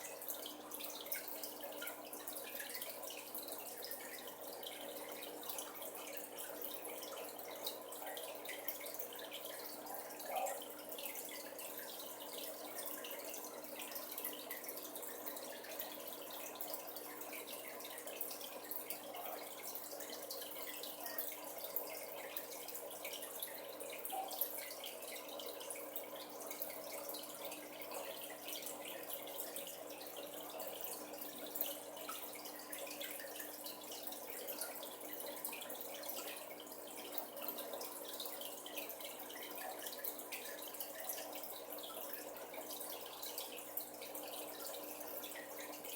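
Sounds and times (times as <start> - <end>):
aquarium water trickling: 0.0 - 45.9.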